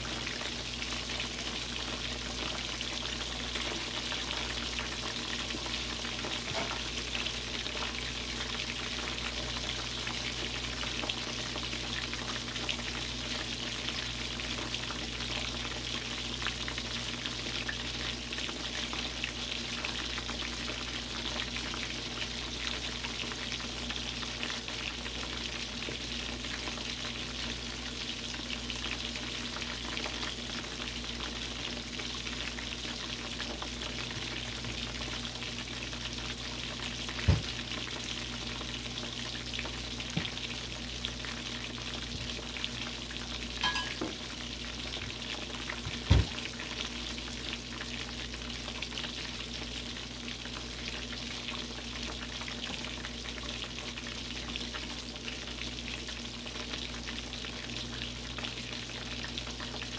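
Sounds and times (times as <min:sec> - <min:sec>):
chicken frying in oil: 0:00.0 - 0:59.9.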